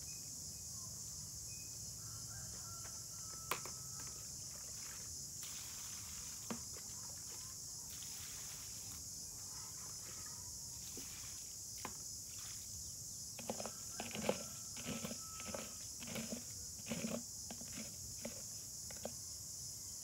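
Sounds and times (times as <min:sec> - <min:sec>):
high hiss of outdoor ambience: 0:00.0 - 0:20.0.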